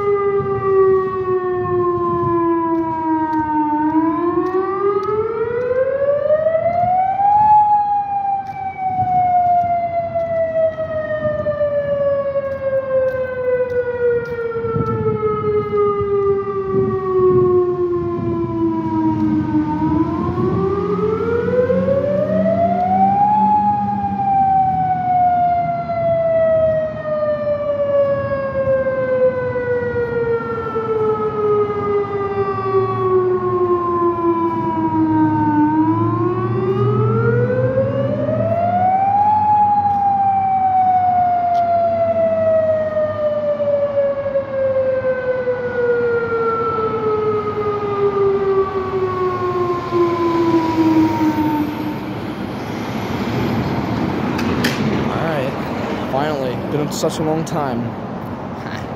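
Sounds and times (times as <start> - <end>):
street traffic rumbling: 0.0 - 58.9
warning siren wailing: 0.0 - 58.9.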